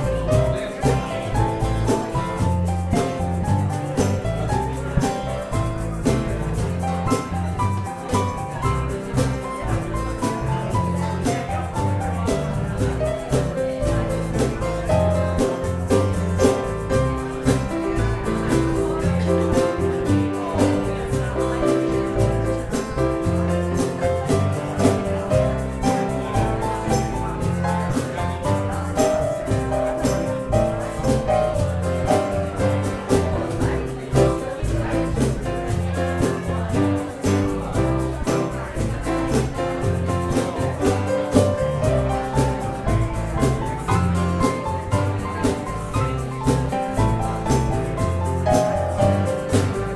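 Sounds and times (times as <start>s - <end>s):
music with held notes and beat: 0.0s - 49.9s.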